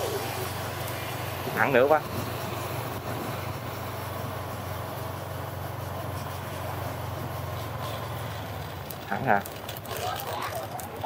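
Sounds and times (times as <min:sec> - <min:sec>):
motorbike engine humming: 0:00.0 - 0:11.0
wind and road noise: 0:00.0 - 0:11.0.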